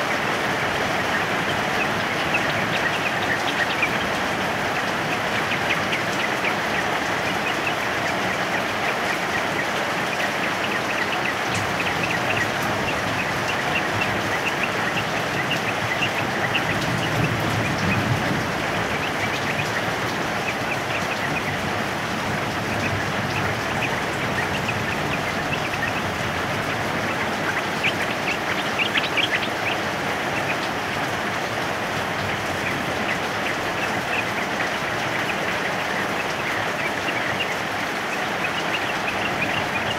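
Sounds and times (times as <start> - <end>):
birds chirping: 0.0 - 39.9
heavy rain: 0.0 - 39.9.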